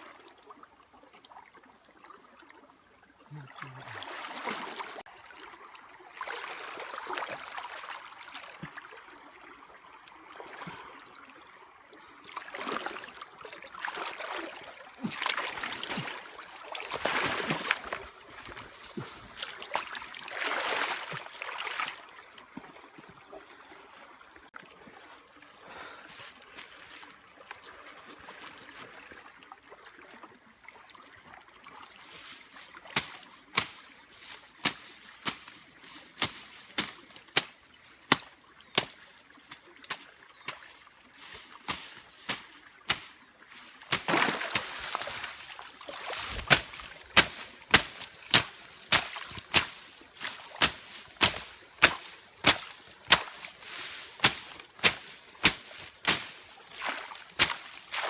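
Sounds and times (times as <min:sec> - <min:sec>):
water splashing and trickling: 0:00.0 - 0:58.0.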